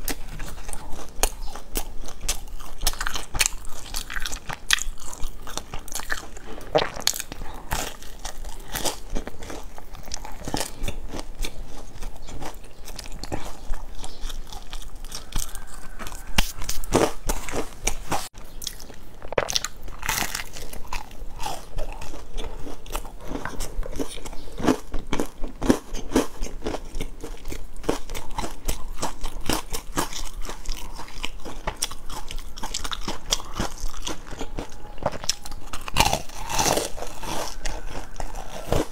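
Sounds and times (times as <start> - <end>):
biscuits crunching while chewed: 0.0 - 38.9.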